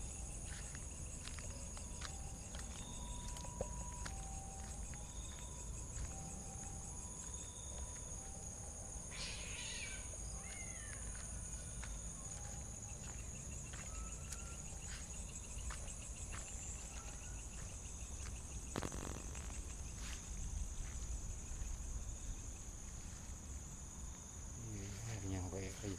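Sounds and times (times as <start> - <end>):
night insects chirring: 0.0 - 25.9.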